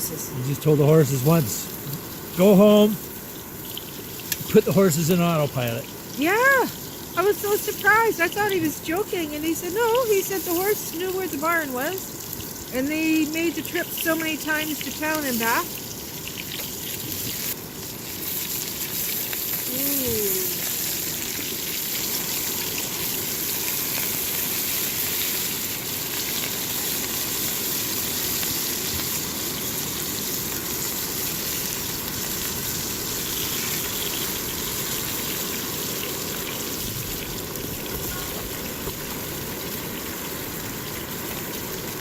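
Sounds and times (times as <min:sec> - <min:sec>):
meat sizzling in a frying pan: 0:00.0 - 0:42.0.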